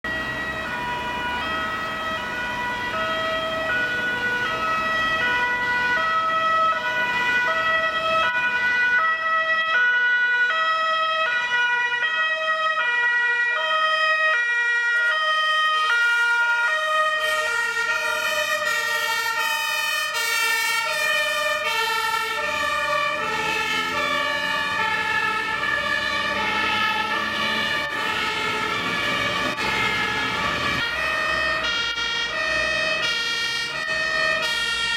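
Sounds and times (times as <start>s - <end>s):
road traffic: 0.0s - 34.9s
two-tone fire engine sirens: 0.0s - 34.9s.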